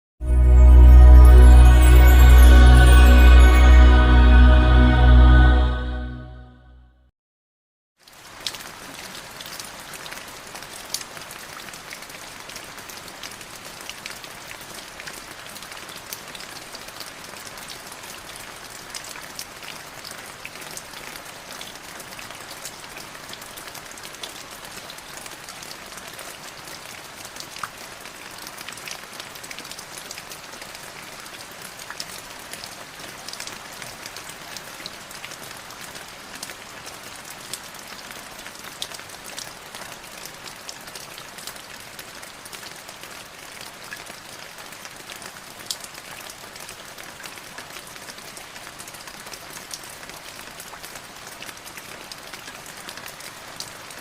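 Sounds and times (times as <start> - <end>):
light drizzling rain: 8.0 - 54.0.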